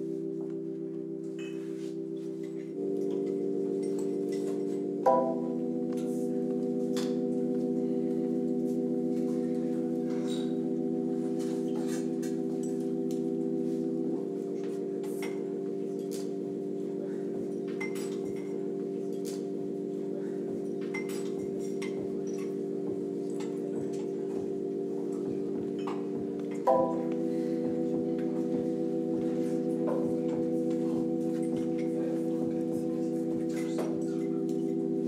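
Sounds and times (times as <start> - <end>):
ambient music with bell-like chords: 0.0 - 35.0.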